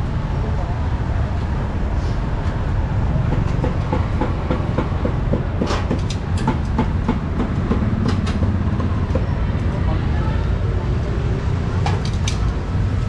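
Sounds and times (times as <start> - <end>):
low mechanical rumble with clatter: 0.0 - 13.0.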